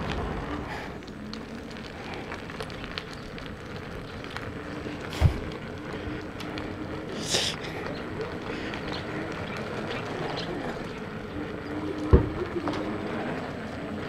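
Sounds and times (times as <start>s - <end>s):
faint crackling hiss: 0.0s - 14.0s
small ticks: 0.6s - 12.9s.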